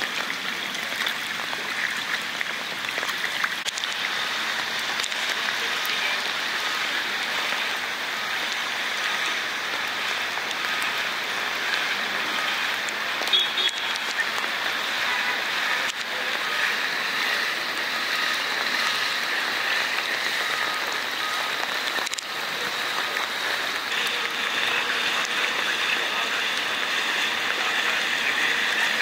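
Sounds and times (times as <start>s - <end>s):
heavy rain on standing water: 0.0s - 29.0s.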